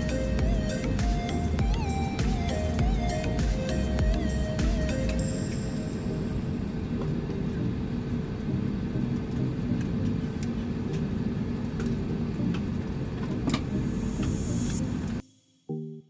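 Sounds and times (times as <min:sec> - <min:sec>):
airplane cabin engine rumble: 0:00.0 - 0:15.2.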